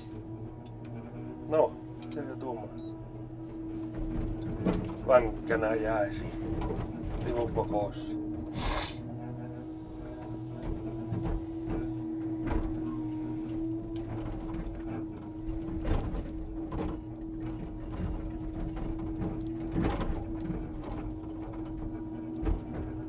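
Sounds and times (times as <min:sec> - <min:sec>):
hydraulic crane whine: 0:00.0 - 0:22.9.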